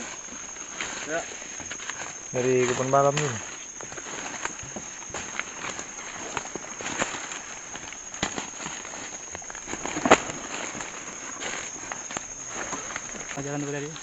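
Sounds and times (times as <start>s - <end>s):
footsteps through undergrowth: 0.0s - 14.0s
insect chirring: 0.0s - 14.0s.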